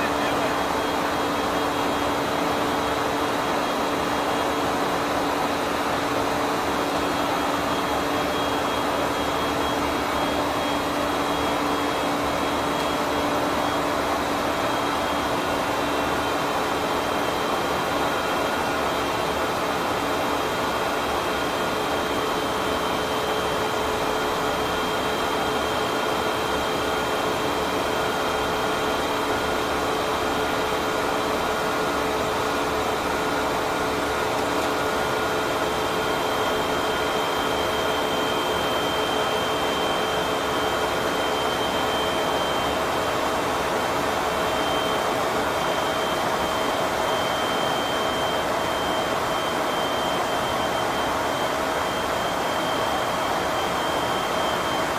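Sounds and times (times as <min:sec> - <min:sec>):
steady whining tones: 0:00.0 - 0:54.9.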